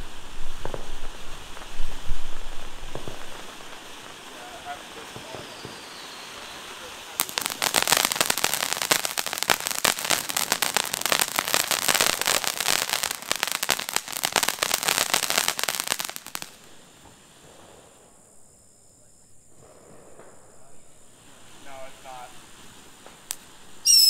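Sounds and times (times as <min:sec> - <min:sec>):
firework crackling pops: 0:00.0 - 0:18.5, 0:19.4 - 0:24.0
firework hiss: 0:00.0 - 0:24.0.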